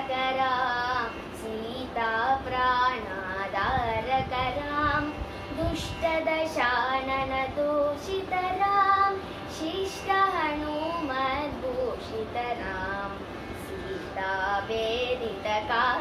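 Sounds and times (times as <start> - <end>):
girl singing devotional song: 0.0 - 16.0.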